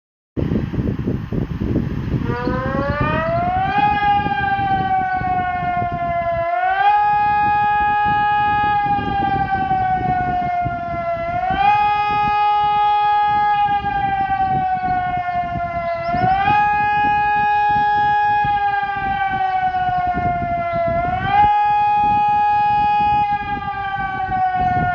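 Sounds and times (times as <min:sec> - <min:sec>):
low rumbling noise: 0:00.4 - 0:24.9
civil defense siren wailing: 0:02.1 - 0:24.9.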